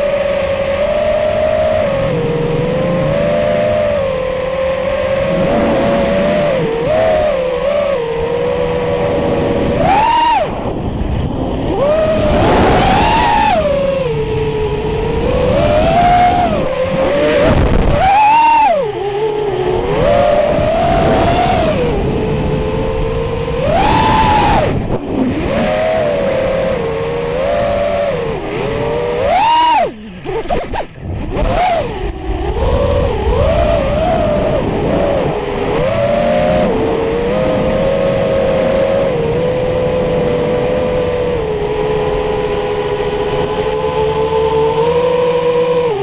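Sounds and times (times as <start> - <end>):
drone motors whining: 0.0 - 46.0.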